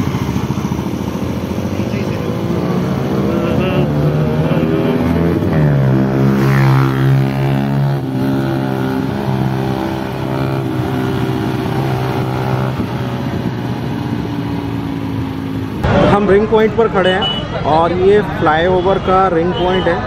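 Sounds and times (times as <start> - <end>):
vehicle engine revving: 0.0 - 16.1
passing traffic: 0.0 - 20.0.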